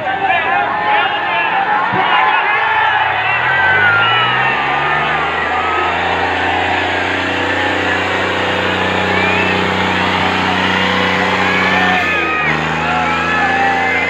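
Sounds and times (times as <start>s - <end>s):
diesel tractor engine droning: 0.0s - 14.0s.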